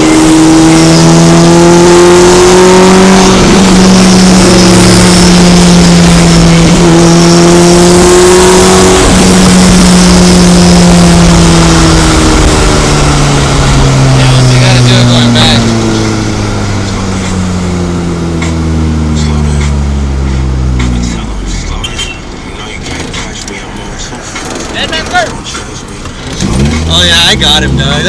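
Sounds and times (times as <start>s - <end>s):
car engine accelerating hard: 0.0s - 28.0s.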